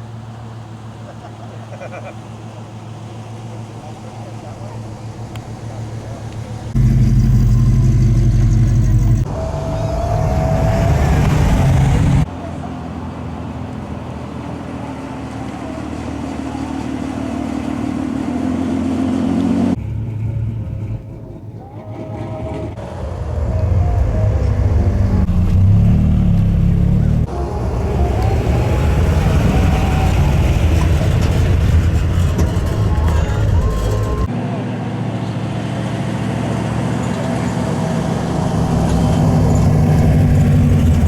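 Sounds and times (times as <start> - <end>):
cars driving past: 0.0 - 41.0.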